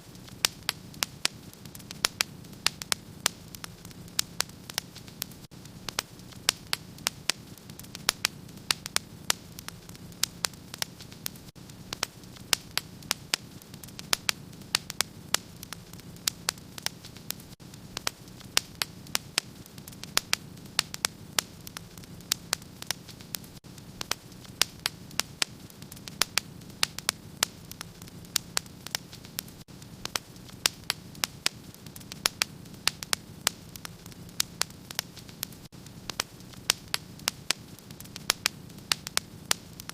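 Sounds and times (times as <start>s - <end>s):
fire pops and snaps: 0.0s - 39.9s
flames rushing: 0.1s - 39.9s.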